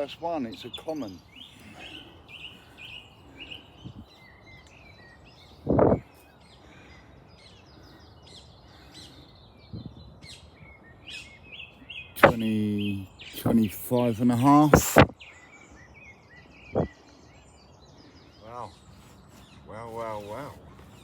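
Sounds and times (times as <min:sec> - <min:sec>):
birds chirping and trilling: 0:00.0 - 0:21.0
outdoor background noise: 0:00.0 - 0:21.0.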